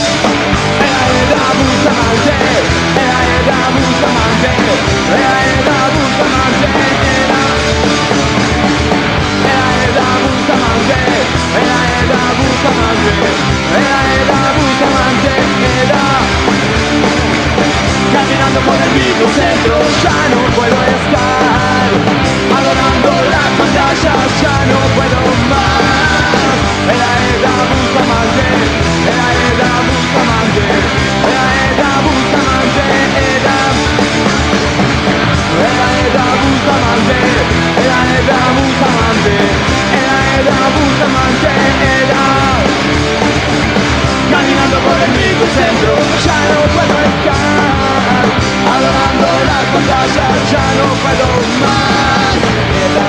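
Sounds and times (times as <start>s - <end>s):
punk rock band playing live: 0.0s - 53.0s.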